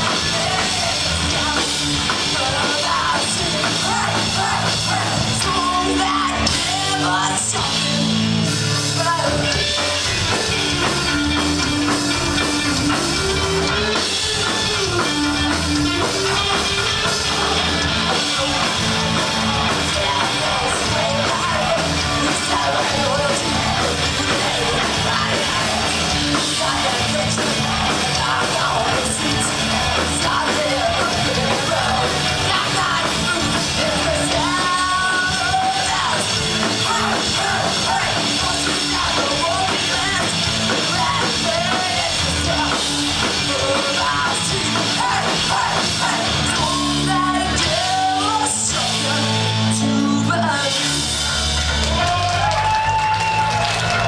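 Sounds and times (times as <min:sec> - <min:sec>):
live rock band: 0:00.0 - 0:54.0.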